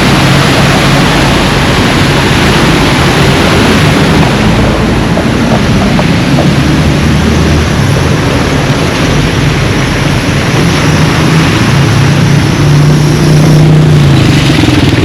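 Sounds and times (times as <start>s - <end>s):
loud rushing noise: 0.0s - 15.0s
vehicle engine humming: 0.0s - 15.0s.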